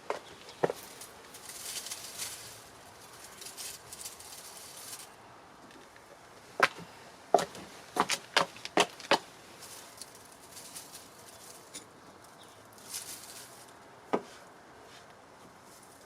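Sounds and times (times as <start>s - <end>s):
soil and plants rustling: 0.0s - 16.0s.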